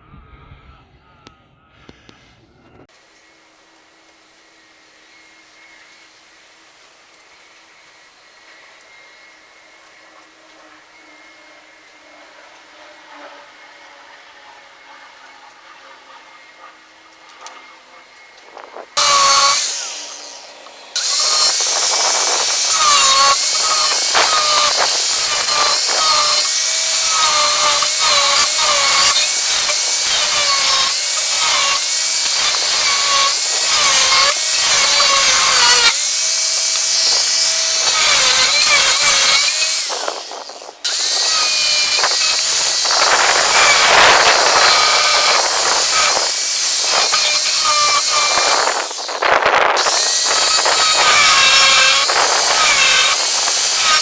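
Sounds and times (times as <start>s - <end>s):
power tool whining on steel: 3.1s - 54.0s.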